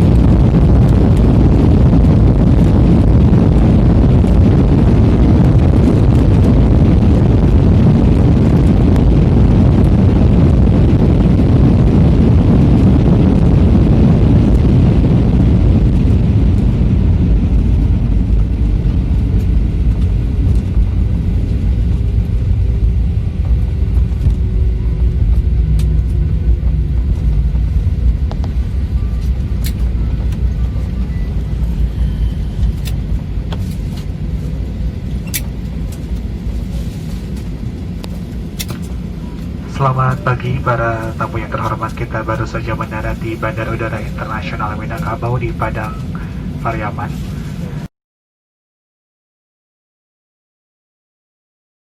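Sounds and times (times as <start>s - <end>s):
faint falling whine: 0.0s - 47.8s
jet engines and rushing air: 0.0s - 47.9s.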